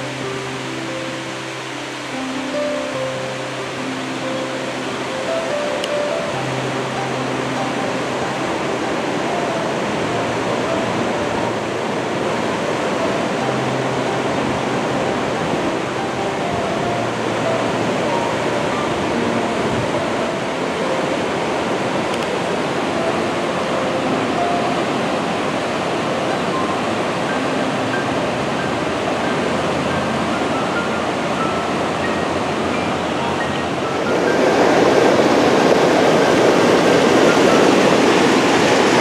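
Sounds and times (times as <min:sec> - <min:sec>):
river rushing over a dam: 0:00.0 - 0:39.0.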